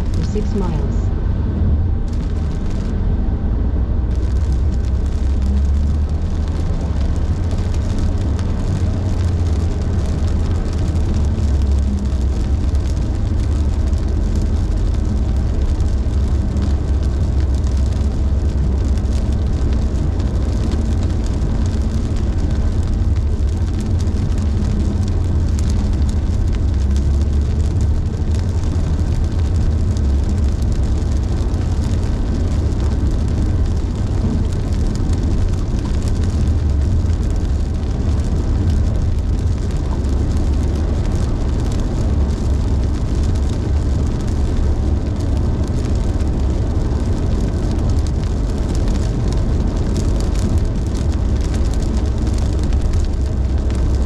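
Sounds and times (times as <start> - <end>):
road rumble inside car: 0.0 - 54.0.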